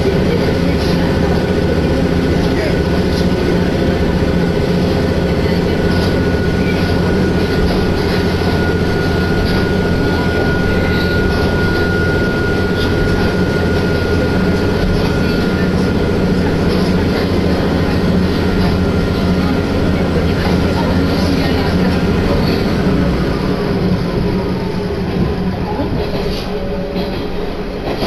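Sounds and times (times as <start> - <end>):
railcar engine and wheels droning: 0.0 - 28.0.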